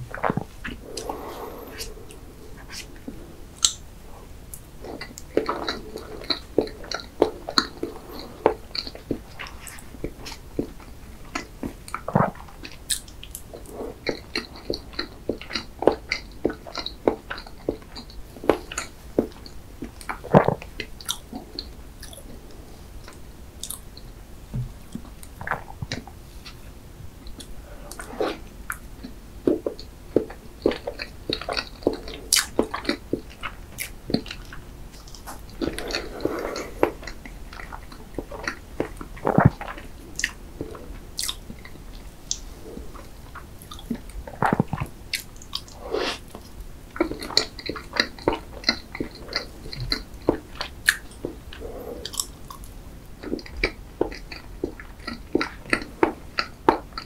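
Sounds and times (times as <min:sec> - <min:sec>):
person chewing cake: 0:00.0 - 0:57.0.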